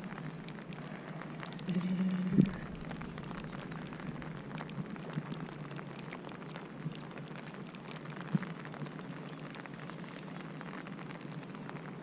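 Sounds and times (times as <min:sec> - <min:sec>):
rain falling steadily: 0:00.0 - 0:12.0
raindrops ticking close by: 0:00.0 - 0:12.0.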